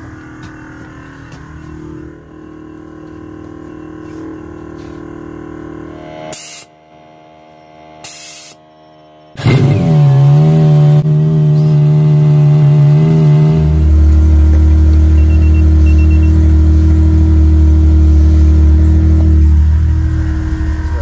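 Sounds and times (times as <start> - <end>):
car engine starting and idling: 0.0 - 6.4, 9.3 - 21.0.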